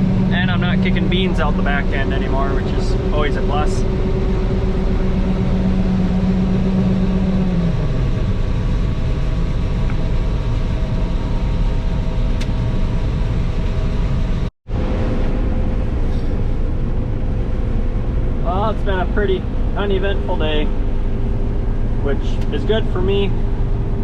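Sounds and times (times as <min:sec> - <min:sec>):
combine harvester droning: 0:00.0 - 0:24.0.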